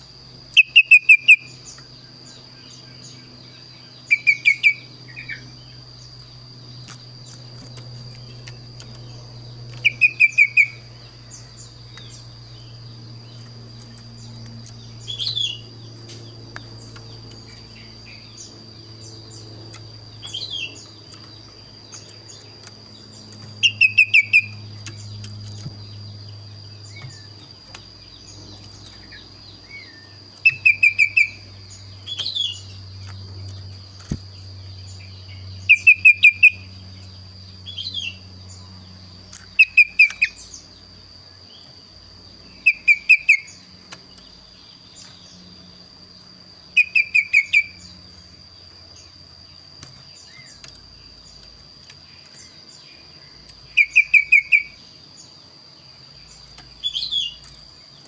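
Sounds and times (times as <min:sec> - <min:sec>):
songbird singing rapid notes: 0:00.0 - 0:58.0.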